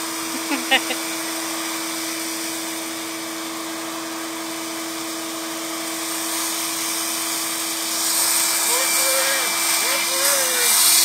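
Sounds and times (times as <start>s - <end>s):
electric hair clippers running: 0.0s - 11.0s.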